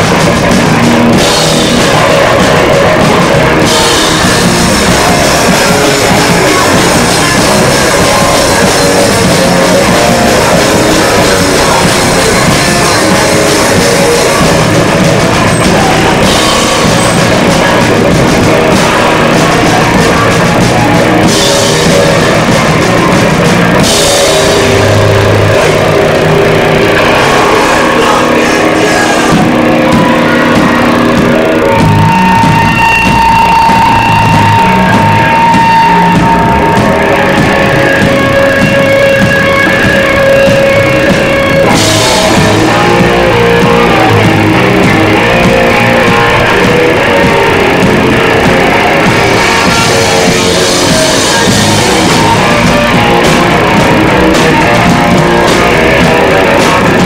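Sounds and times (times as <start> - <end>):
loud live rock band: 0.0 - 57.0.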